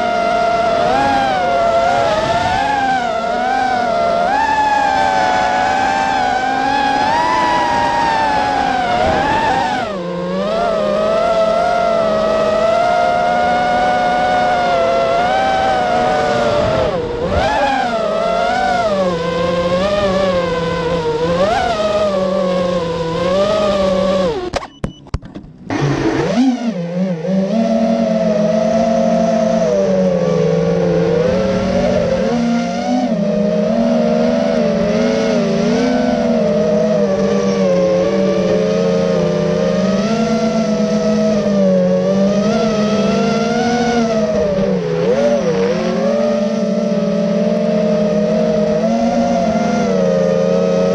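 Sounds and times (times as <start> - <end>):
go-kart engine: 0.0 - 50.9
quadcopter motors whining: 0.0 - 50.9.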